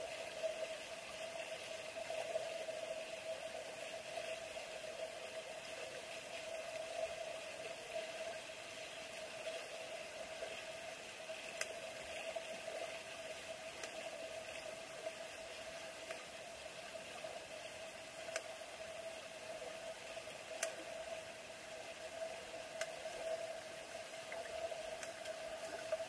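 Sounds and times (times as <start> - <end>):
underwater hum and hiss: 0.0 - 26.0.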